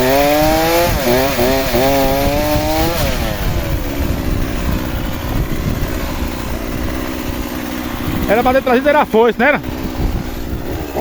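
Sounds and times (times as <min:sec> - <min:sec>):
chainsaw cutting branches: 0:00.0 - 0:11.0.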